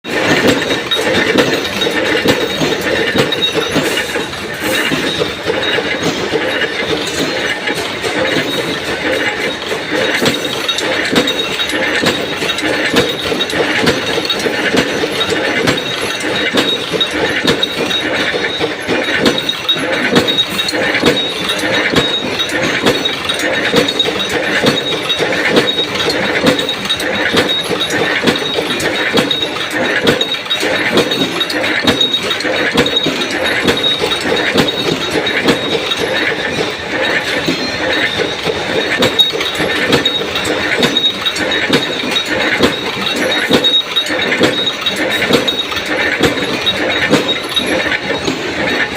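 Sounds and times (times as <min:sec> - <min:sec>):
metal clattering and clinking: 0:00.1 - 0:48.9.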